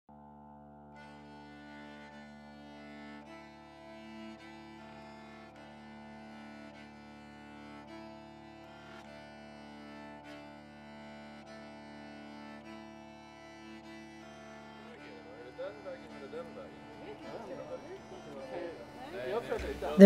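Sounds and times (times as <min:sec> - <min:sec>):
slow held instrumental notes: 0:00.9 - 0:20.0.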